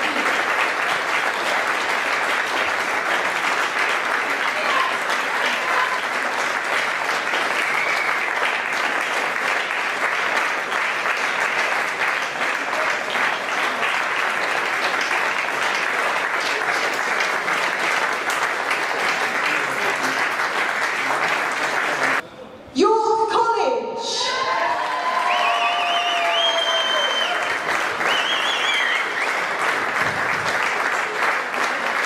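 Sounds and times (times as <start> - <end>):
crowd applauding: 0.0 - 22.2, 24.4 - 32.0.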